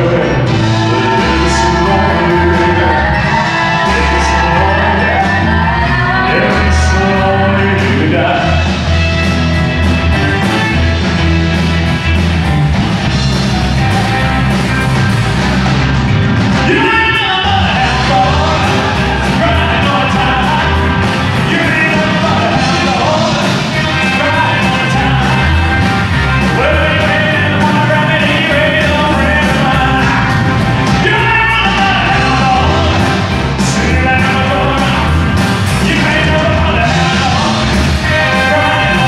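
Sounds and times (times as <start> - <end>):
man singing: 0.0 - 8.9, 16.6 - 39.0
bass guitar: 0.0 - 39.0
drums: 0.0 - 39.0
electric guitar: 0.0 - 39.0.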